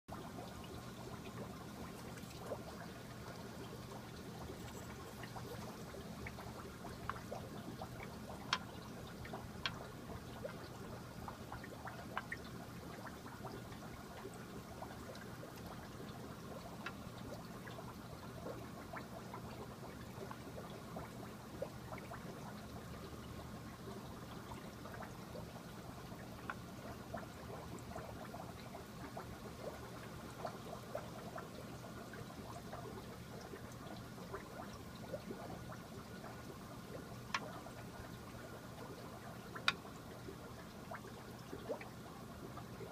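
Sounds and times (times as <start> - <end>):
water trickling and dripping: 0.1 - 42.9.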